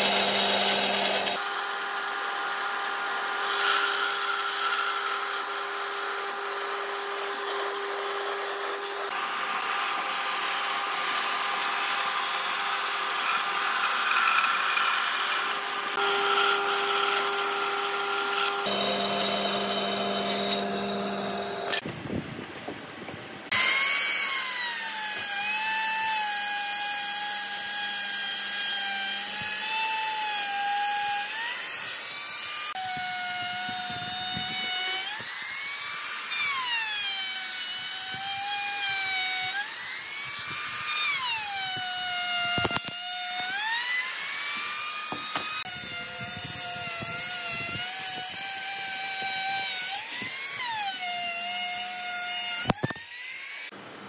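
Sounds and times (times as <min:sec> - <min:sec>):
router whining cutting wood: 0:00.0 - 0:21.8, 0:23.5 - 0:53.8.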